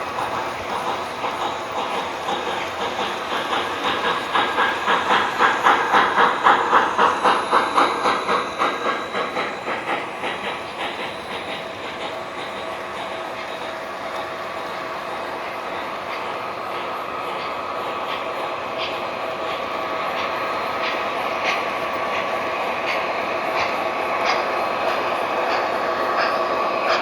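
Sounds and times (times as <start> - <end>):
model train wheels clicking: 0.0 - 27.0.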